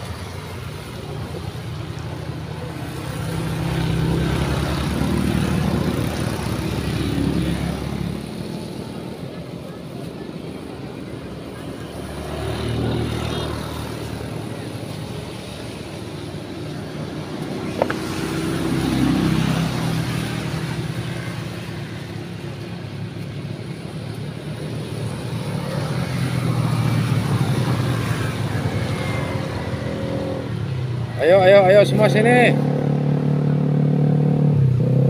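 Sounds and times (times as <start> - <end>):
motorcycles passing: 0.0 - 35.0.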